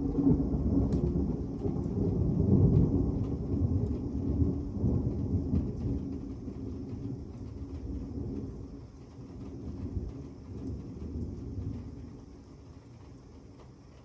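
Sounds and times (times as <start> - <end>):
rain: 0.0 - 14.0
thunder rumbling: 0.0 - 14.0.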